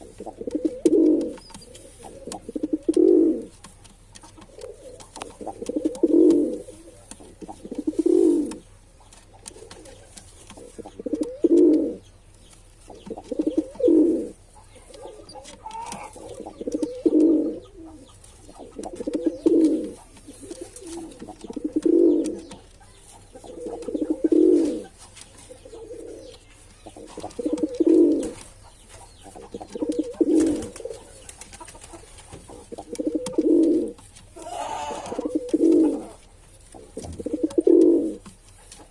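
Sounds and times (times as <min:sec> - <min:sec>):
pigeon cooing: 0:00.0 - 0:12.1, 0:12.9 - 0:38.9.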